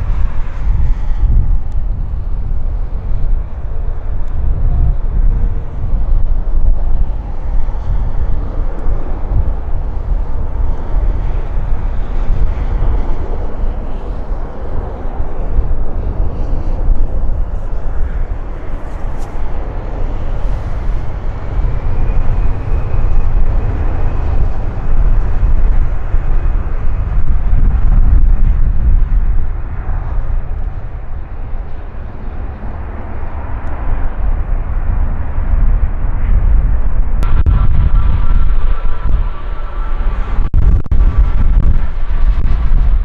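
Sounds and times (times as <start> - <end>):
jet engine rumble: 0.0 - 43.0.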